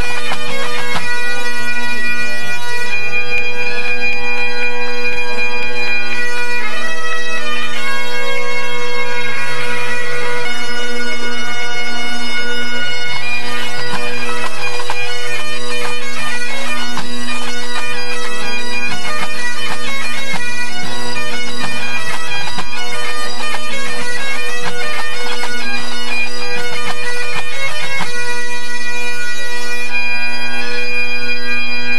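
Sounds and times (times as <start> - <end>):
bagpipes playing: 0.0 - 31.9.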